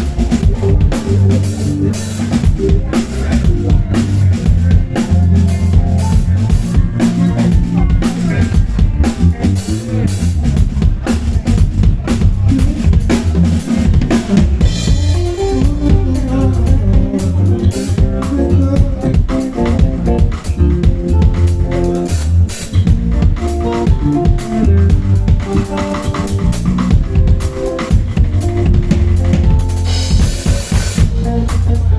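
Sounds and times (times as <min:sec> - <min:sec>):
drum kit playing fast patterns: 0:00.0 - 0:31.9
electric bass lines: 0:00.0 - 0:31.9
live band jamming: 0:00.0 - 0:31.9.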